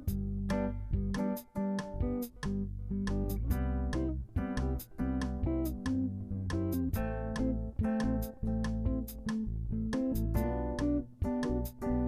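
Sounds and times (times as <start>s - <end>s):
bass line: 0.0s - 12.0s
plucked guitar notes: 0.0s - 12.0s.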